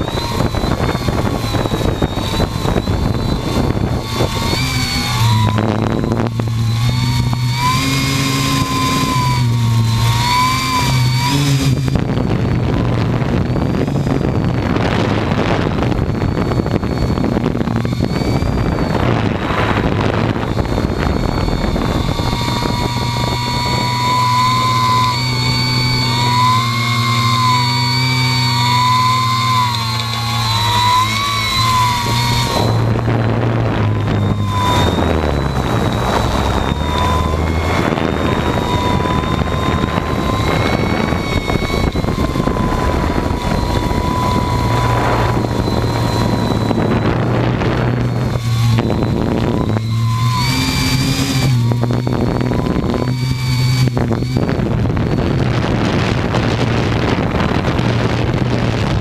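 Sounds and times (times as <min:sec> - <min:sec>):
drone motors whining: 0:00.0 - 0:59.0
rushing gusty noise: 0:00.0 - 0:59.0.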